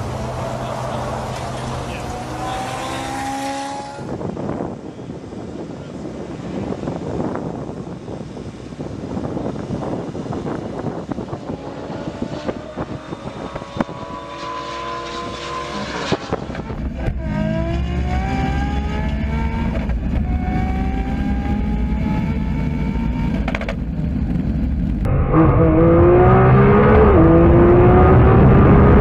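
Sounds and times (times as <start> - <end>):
car engine accelerating: 0.0 - 4.6, 9.4 - 29.0
wind on microphone: 0.0 - 29.0.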